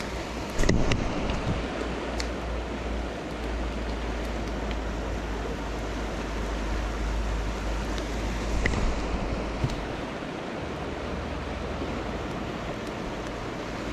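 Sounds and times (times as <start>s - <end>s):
mountain river rushing: 0.0s - 13.9s
wind rumble on microphone: 0.0s - 13.9s.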